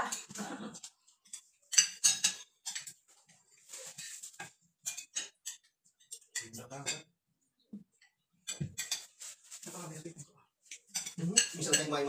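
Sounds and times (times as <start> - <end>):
cutlery clinking on plates: 0.1 - 7.1, 7.9 - 9.4, 10.7 - 12.0.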